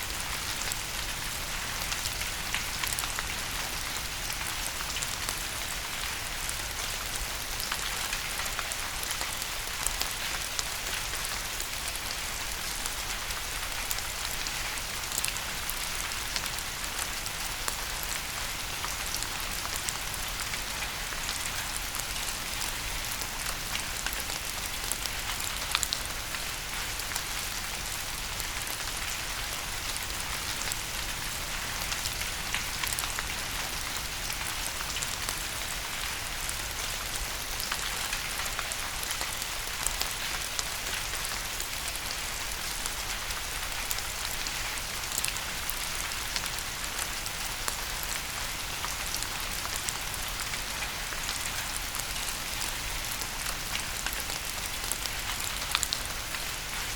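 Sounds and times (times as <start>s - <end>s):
steady rain with raindrop taps: 0.0s - 56.9s.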